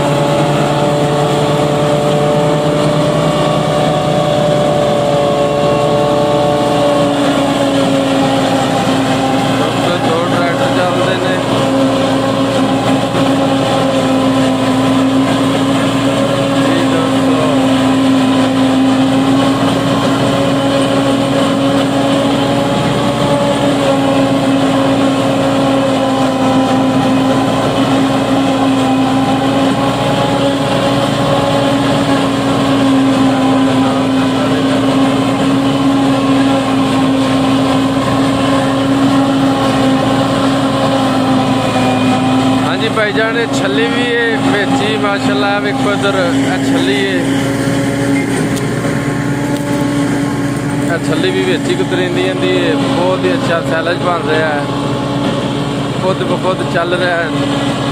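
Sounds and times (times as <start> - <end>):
forage harvester chopping: 0.0 - 57.9
tractor diesel engine under load: 0.0 - 57.9.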